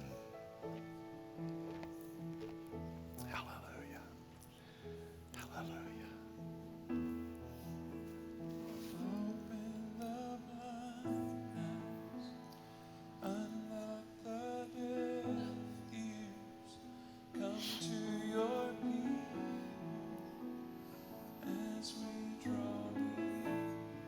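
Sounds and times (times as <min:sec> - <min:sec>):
piano and keyboard worship music: 0:00.0 - 0:24.0.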